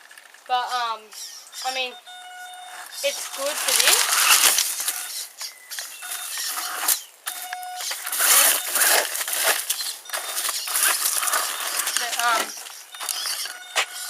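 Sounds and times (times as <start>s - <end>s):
toy truck electric motor: 2.5s - 14.0s
tyre noise on rough ground: 2.6s - 14.0s.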